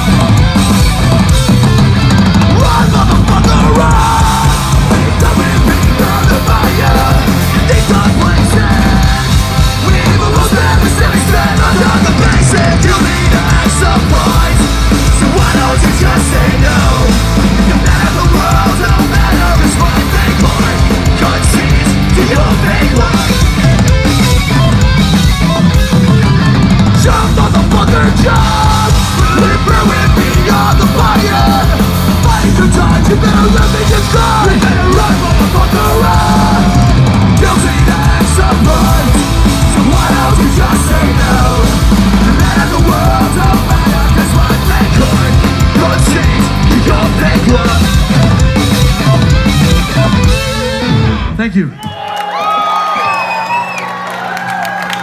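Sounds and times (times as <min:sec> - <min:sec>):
yelled lead vocals: 0:00.0 - 0:54.8
punk rock band playing: 0:00.0 - 0:55.0.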